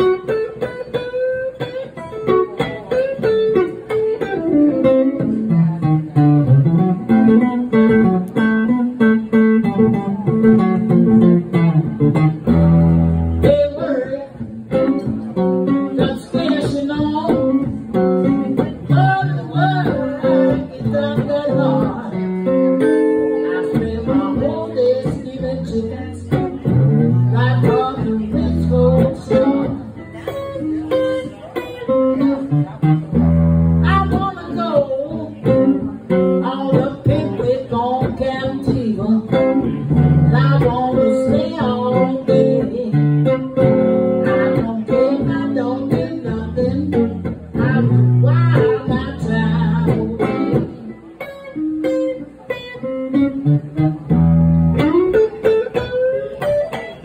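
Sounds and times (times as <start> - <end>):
electric guitar playing blues: 0.0 - 57.0.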